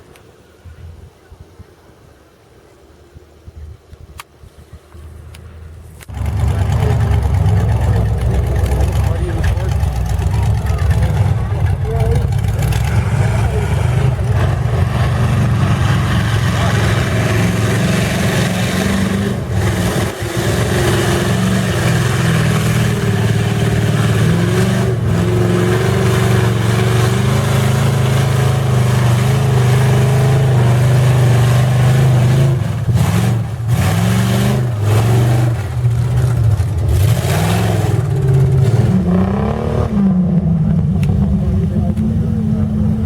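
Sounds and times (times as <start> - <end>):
truck engine running hard: 6.0 - 43.0.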